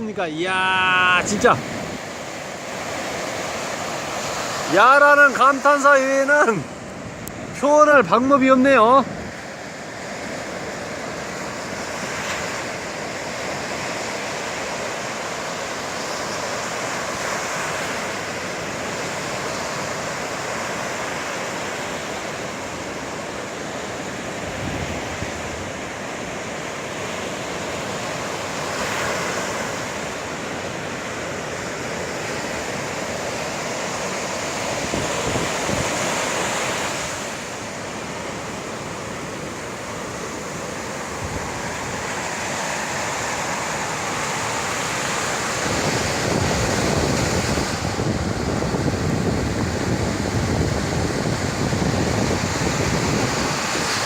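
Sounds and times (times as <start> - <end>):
waves breaking: 0.0 - 54.0.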